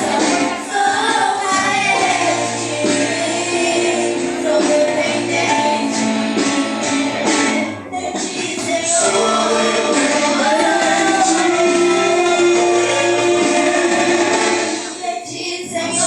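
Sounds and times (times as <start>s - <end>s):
instrumental accompaniment: 0.0s - 15.0s
voices singing worship song: 0.0s - 16.0s.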